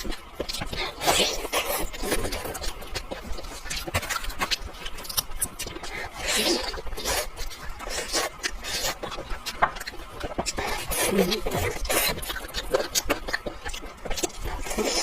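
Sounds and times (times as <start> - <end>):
crackling and rustling while eating: 0.0 - 15.0.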